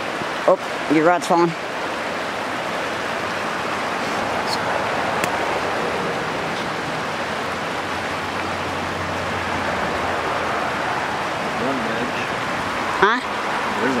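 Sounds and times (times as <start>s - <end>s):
river flowing over rocks: 0.0s - 14.0s.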